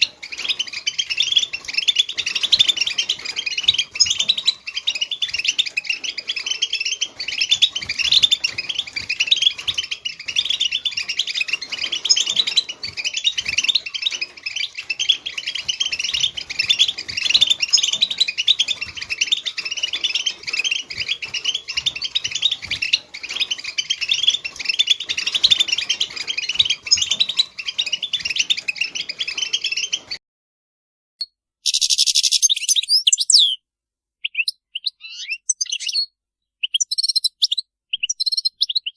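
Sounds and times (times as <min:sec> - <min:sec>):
goldfinch twittering song: 0:00.0 - 0:30.2, 0:31.6 - 0:33.6, 0:34.2 - 0:38.9.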